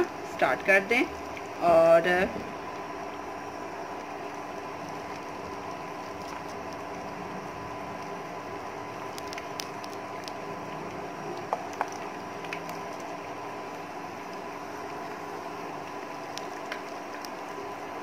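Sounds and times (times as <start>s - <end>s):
batter deep-frying in oil: 0.0s - 18.0s.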